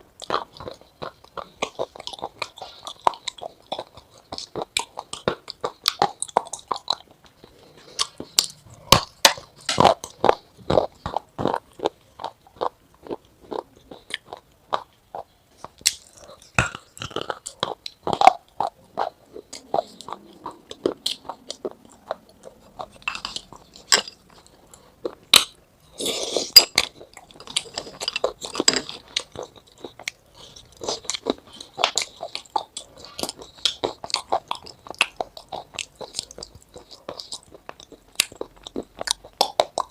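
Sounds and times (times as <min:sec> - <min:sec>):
sharp crunching and clicking: 0:00.2 - 0:39.9.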